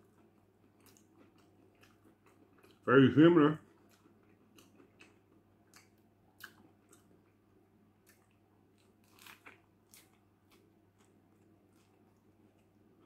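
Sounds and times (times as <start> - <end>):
person chewing food: 0.0 - 2.9, 3.6 - 13.0.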